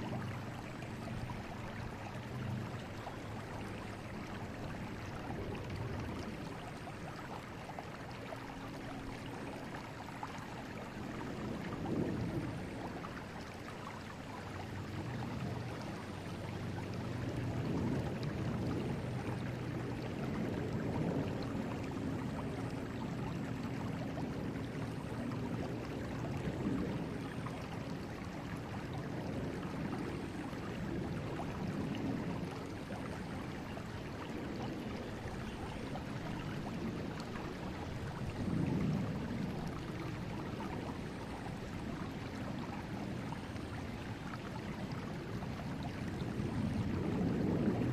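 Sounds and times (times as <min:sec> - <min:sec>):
river water rushing: 0:00.0 - 0:11.8, 0:21.2 - 0:47.9.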